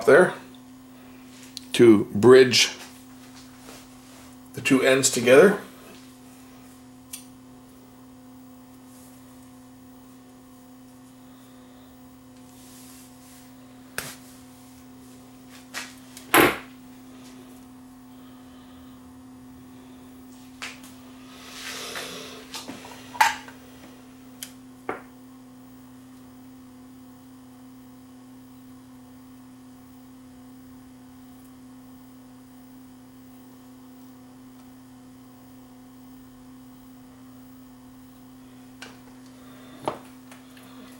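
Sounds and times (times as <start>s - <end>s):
faint mains hum: 0.0s - 40.9s.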